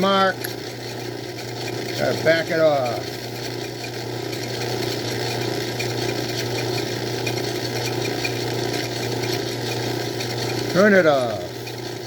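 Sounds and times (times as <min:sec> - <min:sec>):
bench lathe humming: 0:00.0 - 0:12.0
rapid mechanical ticking of gears: 0:00.0 - 0:12.0.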